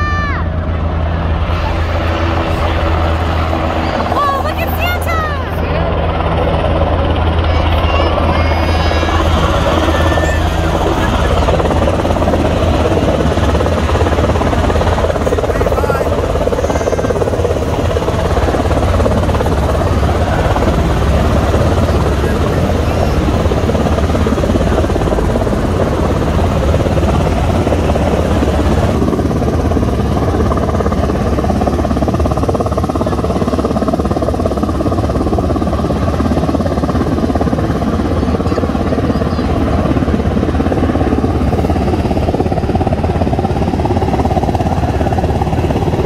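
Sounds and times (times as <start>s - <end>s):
helicopter rotors and engine: 0.0s - 46.0s.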